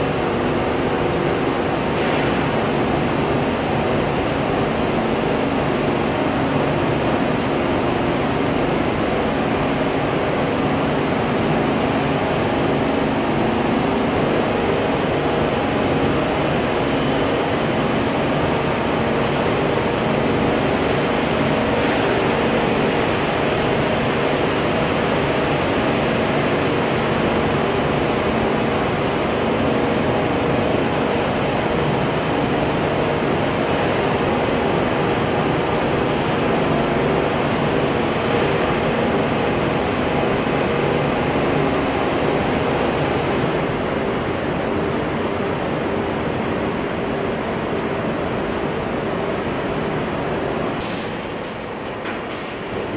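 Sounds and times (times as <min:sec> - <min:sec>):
low machinery hum: 0:00.0 - 0:52.9.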